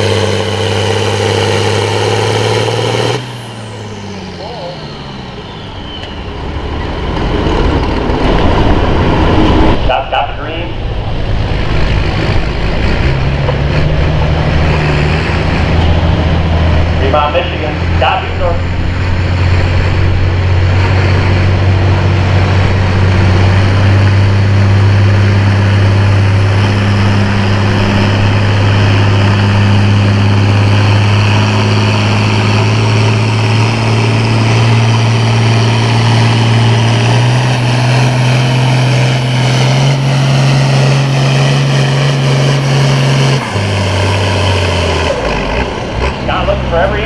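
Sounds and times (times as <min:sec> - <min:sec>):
tractor diesel engine at full throttle: 0:00.0 - 0:47.0.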